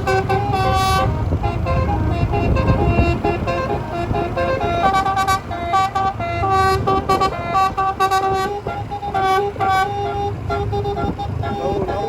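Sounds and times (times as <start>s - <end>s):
multi-trumpet air horn melody: 0.0s - 12.0s.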